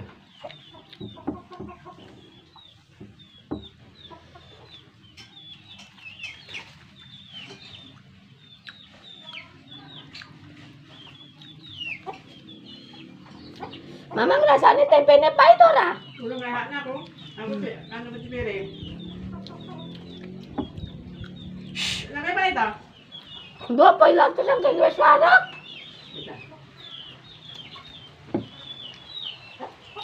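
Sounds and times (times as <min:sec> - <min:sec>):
chickens clucking and chirping: 0:00.0 - 0:30.0.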